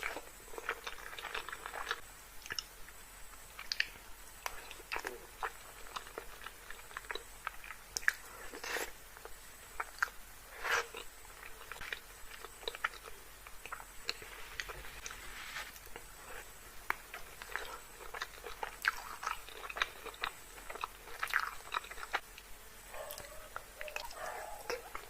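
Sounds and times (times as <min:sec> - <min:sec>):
chewing and mouth sounds: 0:00.0 - 0:02.8, 0:03.6 - 0:15.2, 0:15.8 - 0:25.0.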